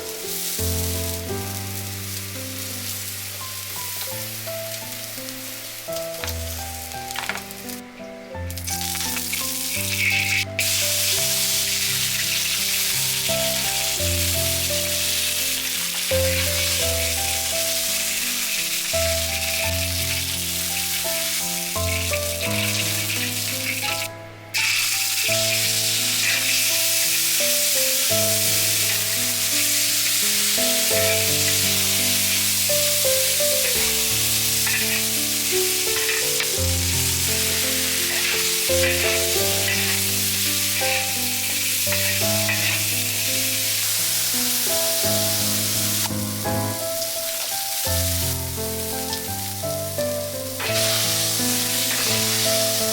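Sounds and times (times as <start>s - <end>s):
food sizzling in hot oil: 0.0s - 52.9s
gentle background music: 0.0s - 52.9s.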